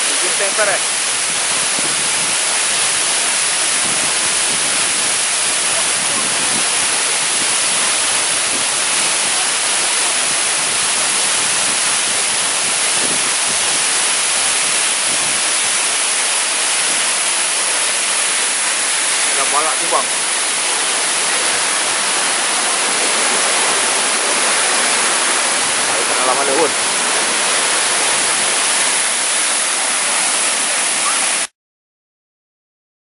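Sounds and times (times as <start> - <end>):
waterfall rushing over rocks: 0.0 - 31.5.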